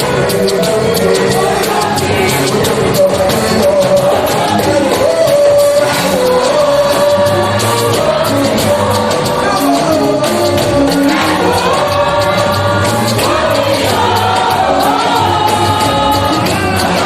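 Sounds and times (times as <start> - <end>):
bass notes: 0.0 - 17.0
choir singing gospel: 0.0 - 17.0
steady percussion: 0.0 - 17.0.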